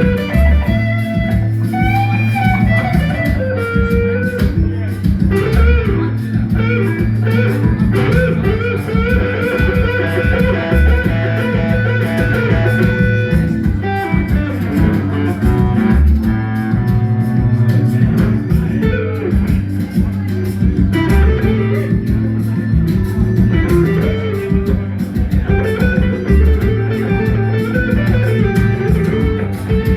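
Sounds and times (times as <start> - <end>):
bass guitar: 0.0 - 29.9
drums: 0.0 - 29.9
guitar lines: 0.0 - 29.9.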